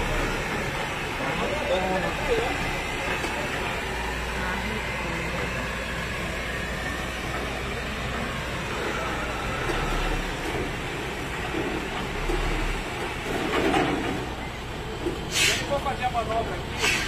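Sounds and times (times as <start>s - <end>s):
road noise: 0.0s - 17.0s
truck engine rumble: 0.0s - 17.0s.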